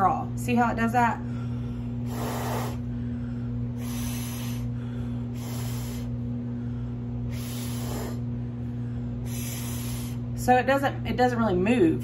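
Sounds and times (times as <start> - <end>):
motor humming: 0.0 - 11.8.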